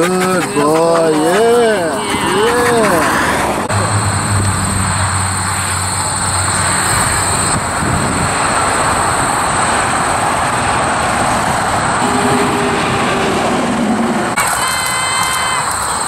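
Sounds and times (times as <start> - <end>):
highway traffic roar: 0.0 - 16.0.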